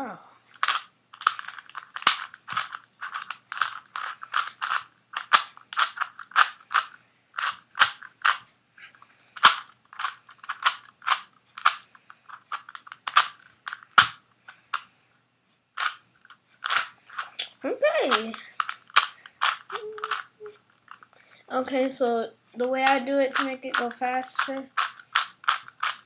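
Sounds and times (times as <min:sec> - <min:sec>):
puzzle cube plastic clacking: 0:00.5 - 0:08.5, 0:09.4 - 0:14.9, 0:15.8 - 0:21.2, 0:22.6 - 0:26.0.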